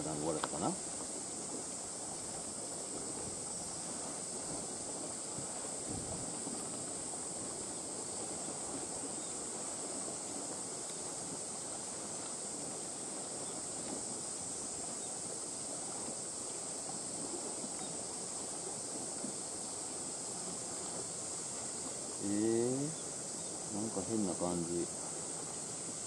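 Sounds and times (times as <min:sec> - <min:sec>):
high hiss: 0:00.0 - 0:26.0
water noise: 0:00.0 - 0:26.0
wind: 0:00.0 - 0:26.0.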